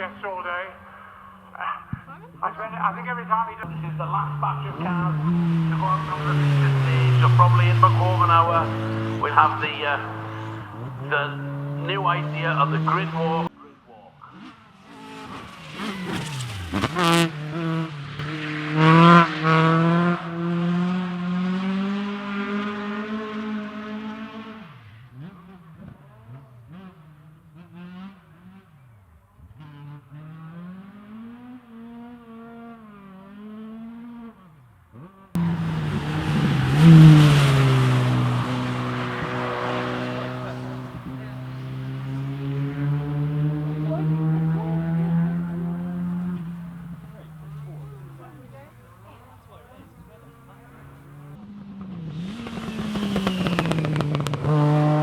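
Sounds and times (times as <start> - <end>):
loud rally car passing close: 0.0 - 13.5, 14.2 - 55.0
rally car engines revving: 0.0 - 55.0.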